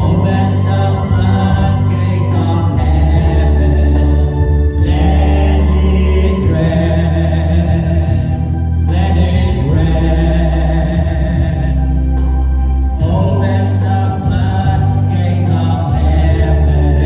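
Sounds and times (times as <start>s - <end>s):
group singing worship music: 0.0s - 17.0s.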